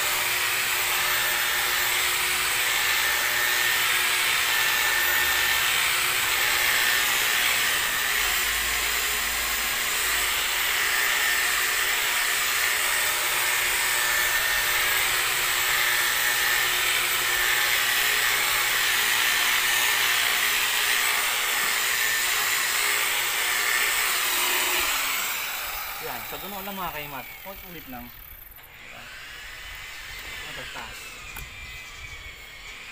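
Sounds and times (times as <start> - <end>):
electric polisher whining: 0.0 - 32.9.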